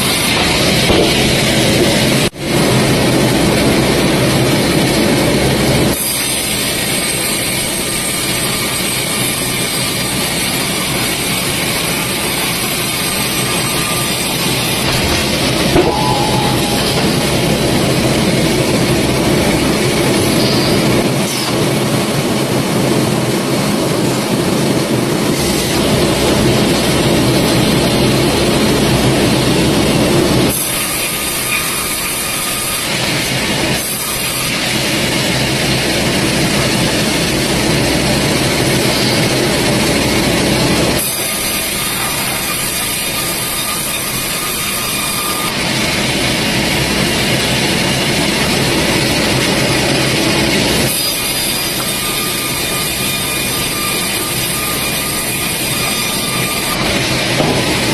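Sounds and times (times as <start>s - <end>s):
sawmill machinery cutting log: 0.0s - 57.9s.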